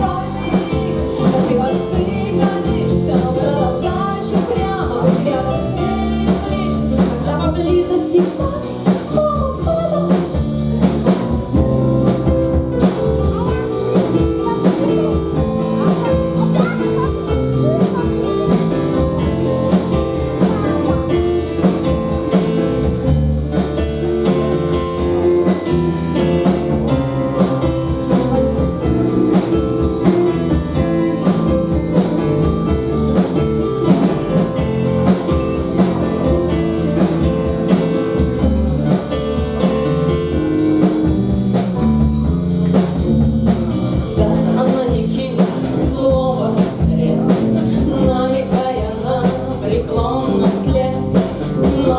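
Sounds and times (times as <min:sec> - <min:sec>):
drum kit beat: 0:00.0 - 0:51.9
guitar: 0:00.0 - 0:51.9.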